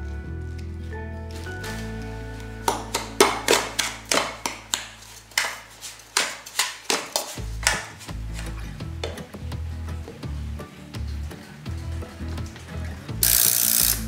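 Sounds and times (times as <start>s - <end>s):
background music: 0.0s - 6.3s, 7.4s - 14.0s.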